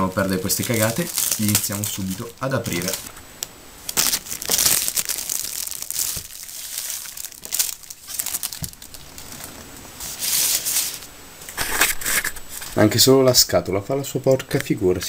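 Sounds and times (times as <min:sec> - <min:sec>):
plastic wrapper crinkling: 0:00.0 - 0:12.8.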